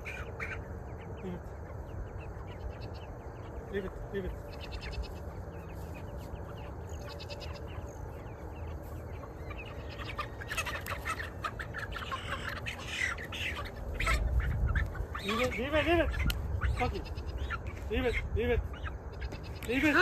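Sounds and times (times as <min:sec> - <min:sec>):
chicks peeping and cheeping: 0:00.0 - 0:20.0.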